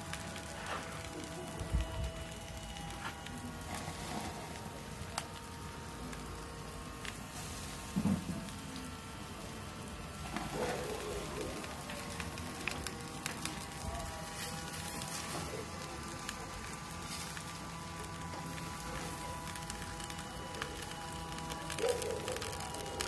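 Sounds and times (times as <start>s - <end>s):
meat sizzling and crackling: 2.6s - 23.0s.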